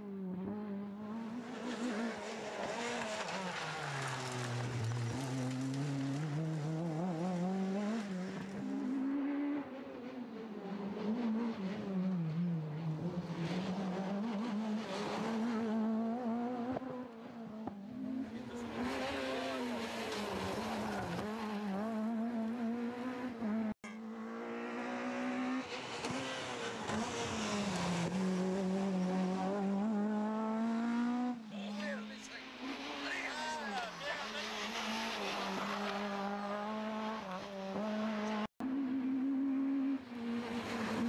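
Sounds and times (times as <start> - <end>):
rally car engine revving hard: 0.4 - 9.7, 10.6 - 31.9, 32.5 - 41.0.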